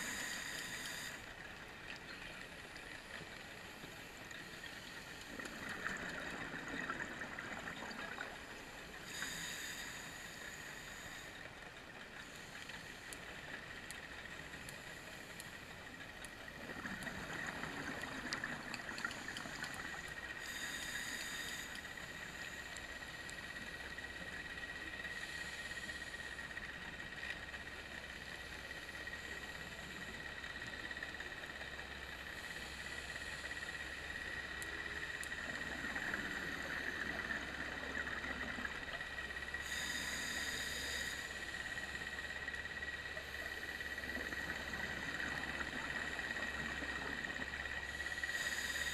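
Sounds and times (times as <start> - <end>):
underwater hiss: 0.0 - 2.2, 3.1 - 11.6, 12.2 - 16.0, 16.6 - 48.9
faint clicks: 0.0 - 48.9
thin constant whine: 0.0 - 48.9.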